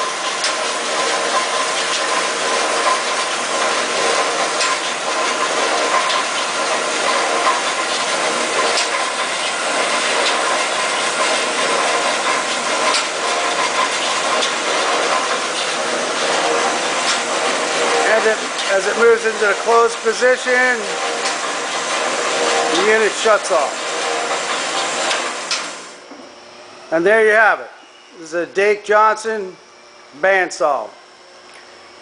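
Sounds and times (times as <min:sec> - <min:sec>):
band saw motor humming: 0:00.0 - 0:32.0.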